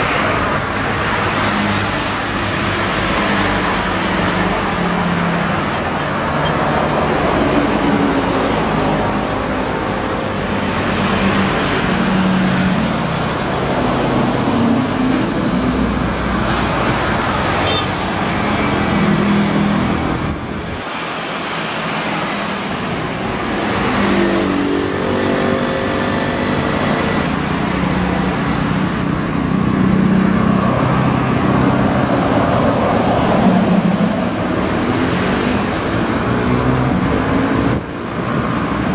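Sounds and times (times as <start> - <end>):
passing vehicles engines and tyres: 0.0 - 38.9.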